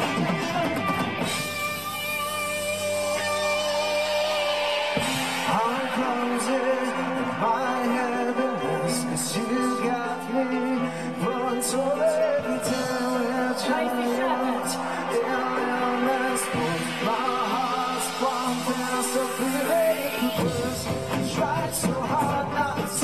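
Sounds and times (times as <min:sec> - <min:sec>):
drum kit: 0:00.0 - 0:23.0
electric guitars: 0:00.0 - 0:23.0
man singing into a microphone: 0:02.8 - 0:23.0.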